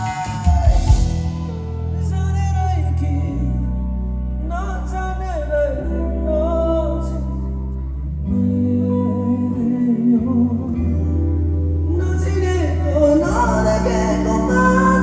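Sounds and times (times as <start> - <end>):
guitar: 0.0 - 15.0
heavy bass: 0.0 - 15.0
person singing: 0.0 - 15.0.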